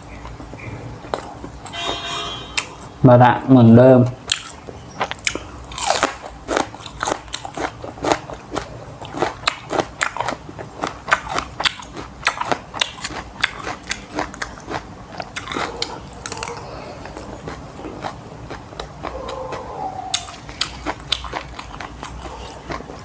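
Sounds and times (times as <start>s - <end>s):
person chewing with crunching: 0.0s - 2.9s, 4.2s - 23.0s.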